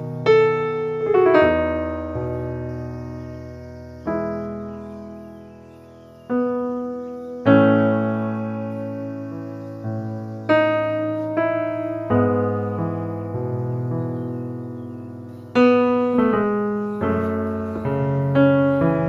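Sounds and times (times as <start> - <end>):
slow gentle piano chords: 0.0 - 19.0.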